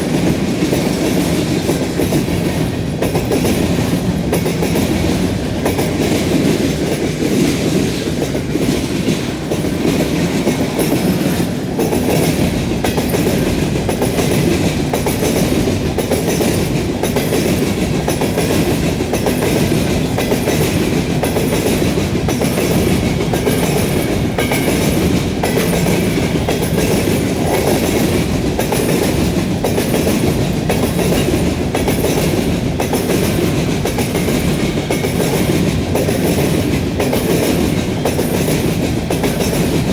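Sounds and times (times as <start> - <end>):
freight train rolling past: 0.0 - 39.9
wheels clicking over rail joints: 0.0 - 39.9.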